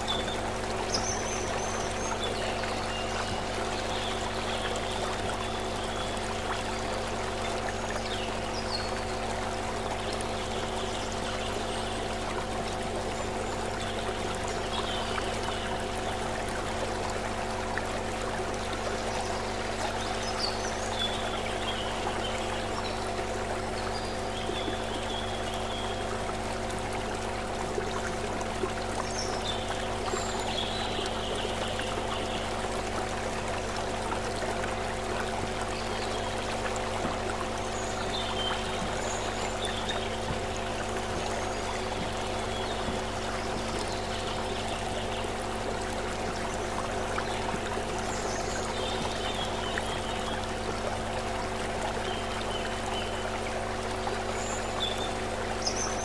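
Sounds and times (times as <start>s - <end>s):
low hum of held tones: 0.0s - 56.0s
stream trickling over rocks: 0.0s - 56.0s.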